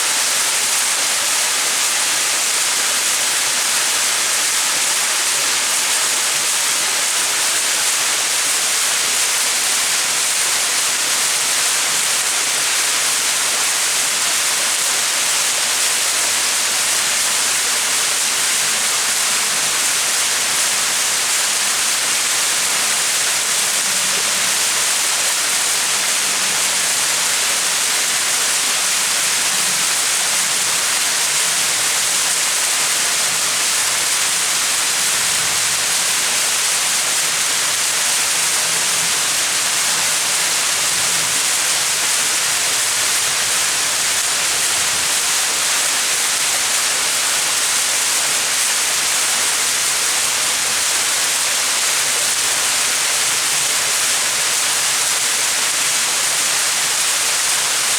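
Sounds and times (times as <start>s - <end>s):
small waterfall splashing: 0.0s - 57.9s.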